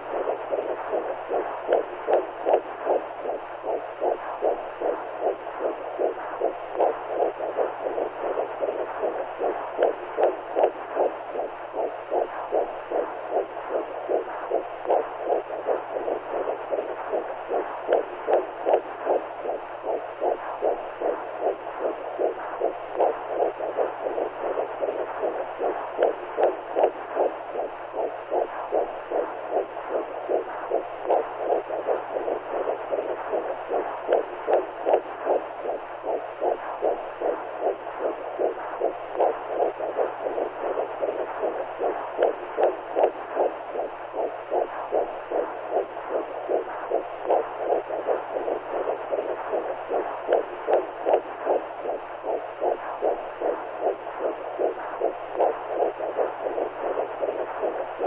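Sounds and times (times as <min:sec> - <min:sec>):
muffled heartbeat whooshes: 0:00.0 - 0:58.0
steady low hum: 0:00.0 - 0:58.0.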